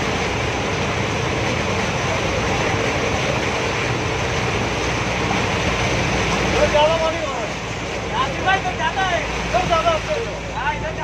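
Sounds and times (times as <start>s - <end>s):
engine hum: 0.0s - 11.0s
floodwater rushing and splashing: 0.0s - 11.0s.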